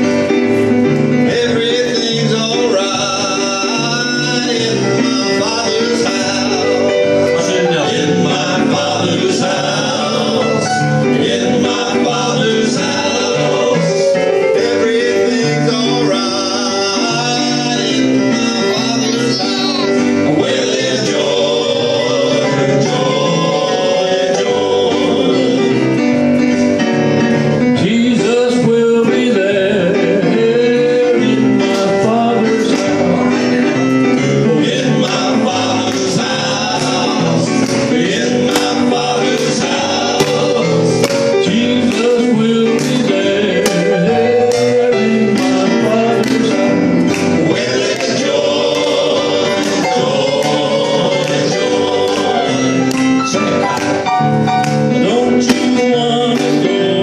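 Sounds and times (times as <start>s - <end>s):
electronic keyboard piano: 0.0s - 57.0s
male quartet singing in harmony: 0.0s - 57.0s.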